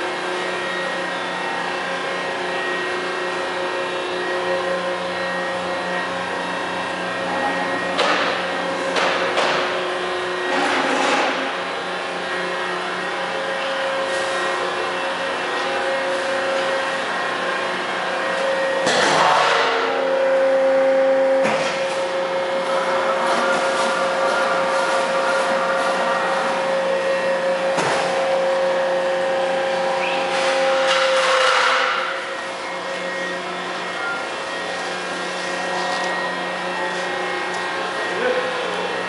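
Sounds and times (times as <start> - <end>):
machine motor hum: 0.0 - 39.0.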